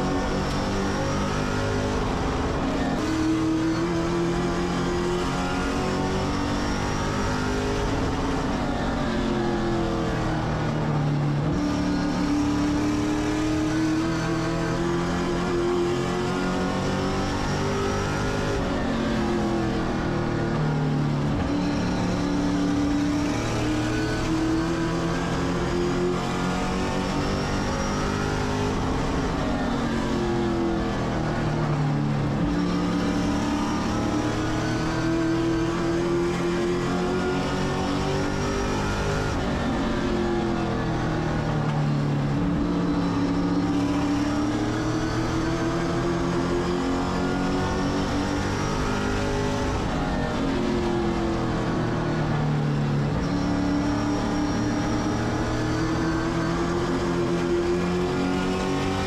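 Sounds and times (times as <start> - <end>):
race car engine: 0.0 - 59.0.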